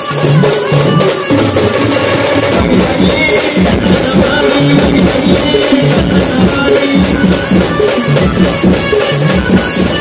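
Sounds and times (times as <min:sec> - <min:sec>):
band music through loudspeakers: 0:00.0 - 0:10.0.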